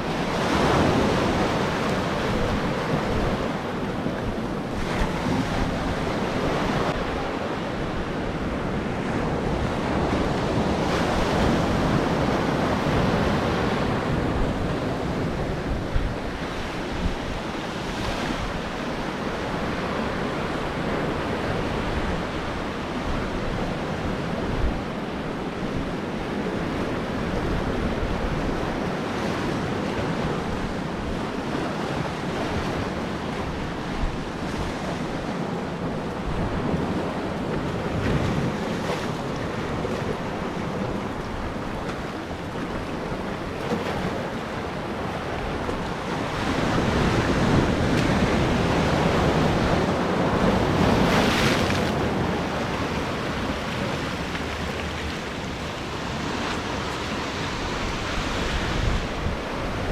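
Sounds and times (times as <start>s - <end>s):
ocean surf on beach: 0.0s - 59.9s
wind buffeting microphone: 0.0s - 59.9s.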